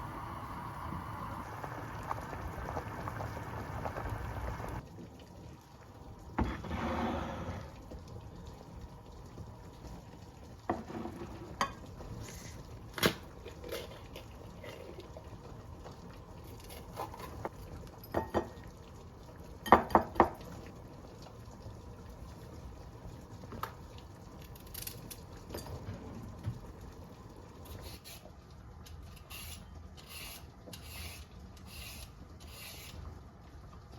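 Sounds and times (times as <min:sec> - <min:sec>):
low steady background noise: 0:00.0 - 0:33.9.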